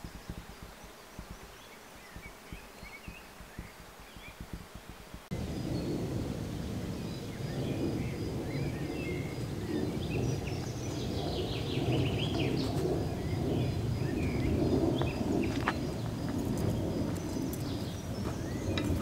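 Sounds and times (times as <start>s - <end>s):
low outdoor background noise: 0.0s - 19.0s
small birds chirping and trilling: 0.0s - 19.0s.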